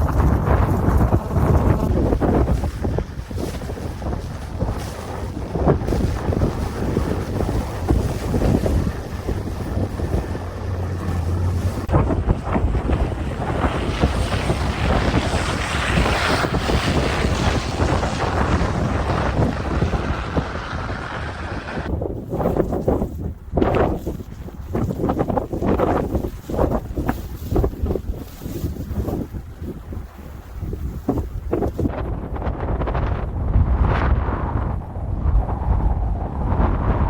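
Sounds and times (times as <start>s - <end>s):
wind gusting against microphone: 0.0s - 37.0s.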